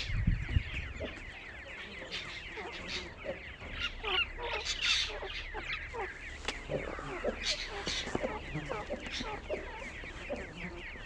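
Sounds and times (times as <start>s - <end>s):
adult bird calls: 0.0s - 11.0s
chicks peeping: 0.0s - 11.0s.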